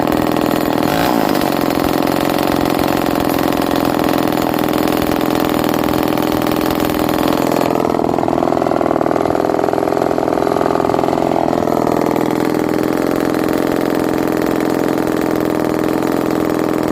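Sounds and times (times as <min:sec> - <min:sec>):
chainsaw engine running: 0:00.0 - 0:16.9.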